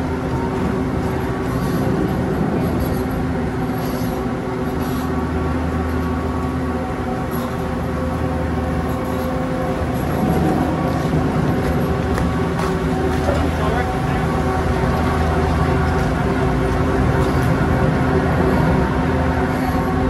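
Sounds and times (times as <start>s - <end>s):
chairlift machinery humming: 0.0s - 20.0s.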